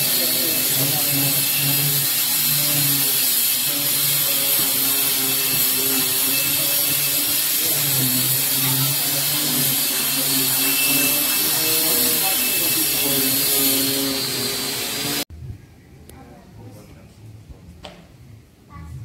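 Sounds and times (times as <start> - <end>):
electric power tool whining: 0.0 - 15.3.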